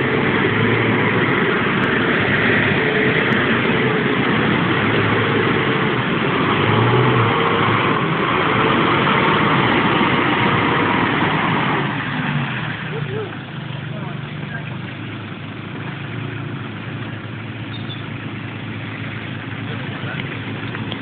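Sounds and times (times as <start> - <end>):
engine running at low revs: 0.0 - 21.0.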